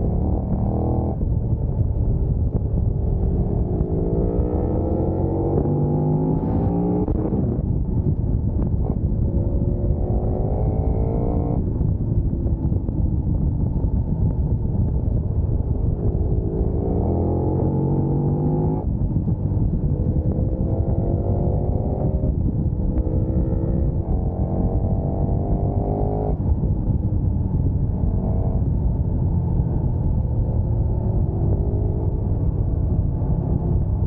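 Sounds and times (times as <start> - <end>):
motorcycle engine accelerating: 0.0 - 34.0
wind noise: 0.0 - 34.0.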